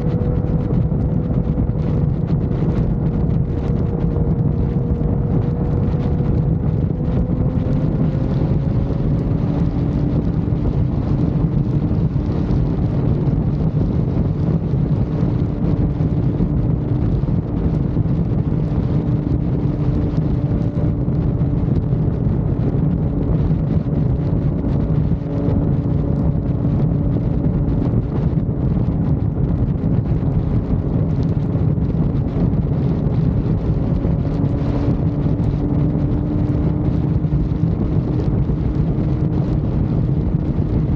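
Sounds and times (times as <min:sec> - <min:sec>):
motorcycle engine hum: 0:00.0 - 0:40.9
wind rushing over microphone: 0:00.0 - 0:40.9.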